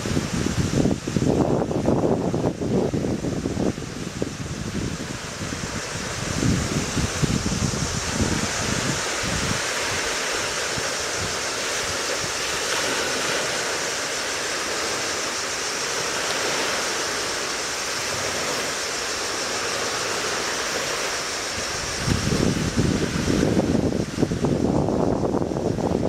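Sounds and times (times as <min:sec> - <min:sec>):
steady wind hiss: 0:00.0 - 0:26.0
wind gusts buffeting microphone: 0:00.0 - 0:26.0.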